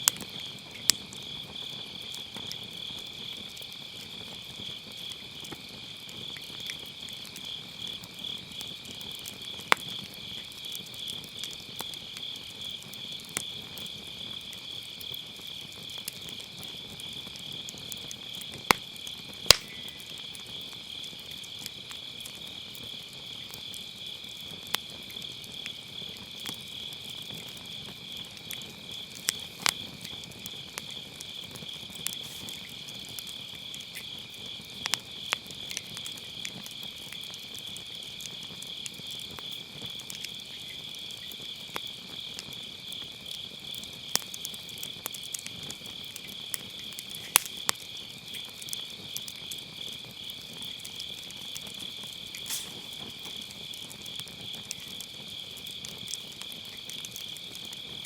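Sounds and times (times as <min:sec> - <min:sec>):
fire crackling and popping: 0:00.0 - 0:58.0
insects trilling: 0:00.0 - 0:58.0.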